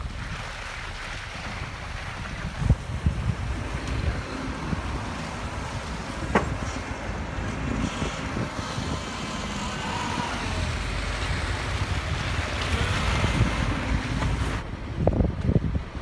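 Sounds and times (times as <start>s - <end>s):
car tyres and engine rumble: 0.0s - 16.0s
wind on microphone: 0.0s - 16.0s.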